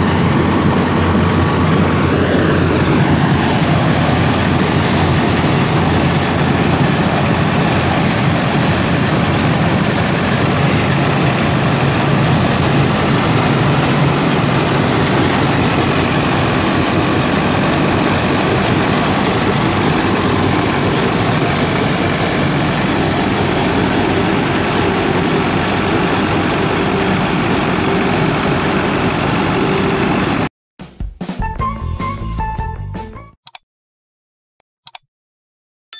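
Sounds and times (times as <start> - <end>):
harvester machinery clattering: 0.0 - 30.5
tractor diesel engine drone: 0.0 - 30.5.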